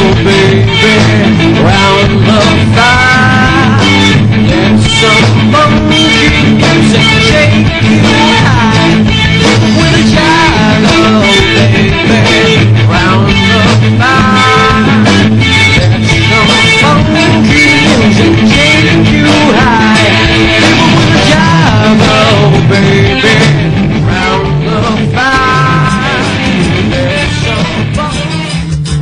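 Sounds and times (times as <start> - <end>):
wavering high guitar notes: 0.0 - 28.8
funk rock band playing: 0.0 - 29.0.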